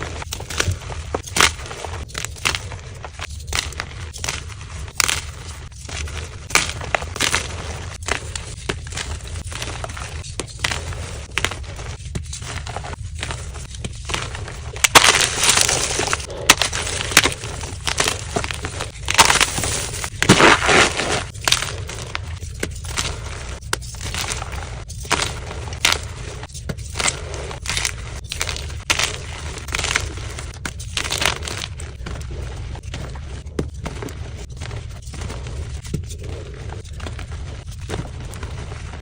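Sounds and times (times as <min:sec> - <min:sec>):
chalk being crushed: 0:00.0 - 0:39.0
low steady hum: 0:00.0 - 0:39.0.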